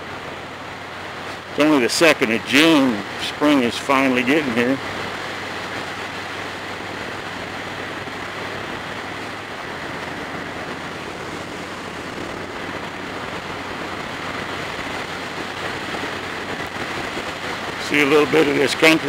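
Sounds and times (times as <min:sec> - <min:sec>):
motorcycle engine cruising: 0:00.0 - 0:19.0
road noise: 0:00.0 - 0:19.0
wind noise: 0:00.0 - 0:19.0.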